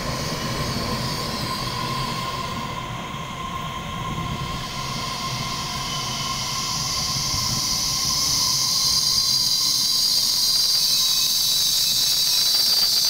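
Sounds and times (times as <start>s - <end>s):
faint brake squeal: 0.0s - 13.0s
train brakes hissing: 0.0s - 13.0s.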